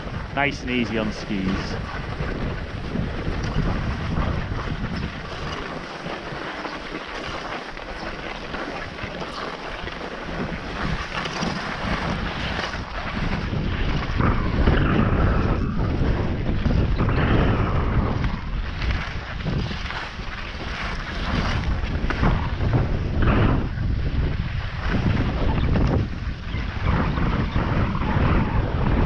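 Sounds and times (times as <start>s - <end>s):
skis sliding on snow: 0.0s - 16.3s, 18.0s - 23.2s, 24.1s - 29.0s
wind buffeting microphone: 0.0s - 29.0s.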